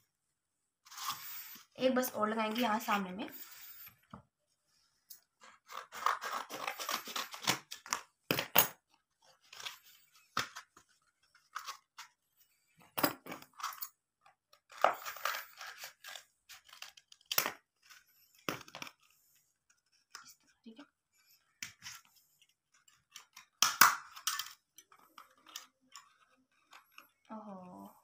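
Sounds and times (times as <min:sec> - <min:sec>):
paper and card rustling: 0:00.9 - 0:04.1, 0:05.3 - 0:13.8, 0:14.6 - 0:20.5, 0:21.3 - 0:27.3.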